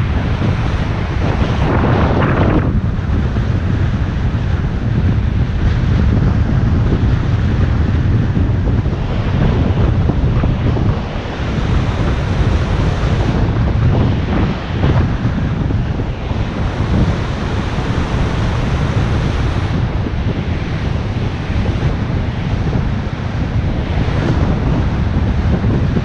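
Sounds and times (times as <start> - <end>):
surf breaking: 0.0 - 26.0
wind buffeting microphone: 0.0 - 26.0.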